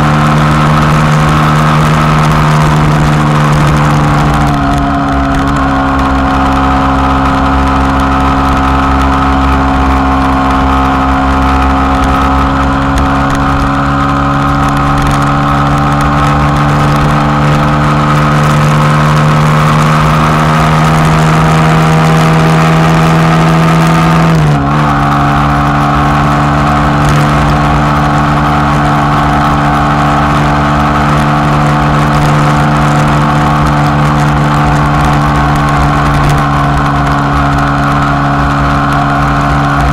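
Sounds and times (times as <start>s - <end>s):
low wind rumble: 0.0s - 39.9s
motorcycle engine cruising: 0.0s - 39.9s.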